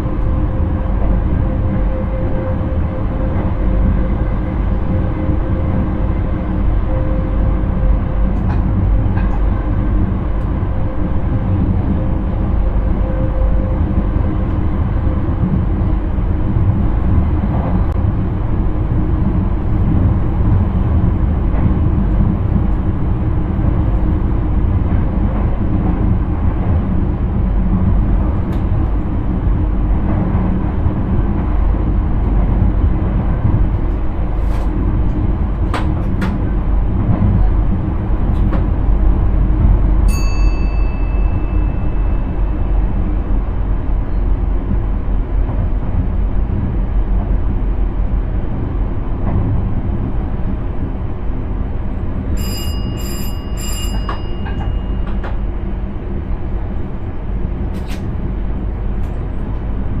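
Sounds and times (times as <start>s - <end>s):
train running rumble: 0.0s - 60.0s.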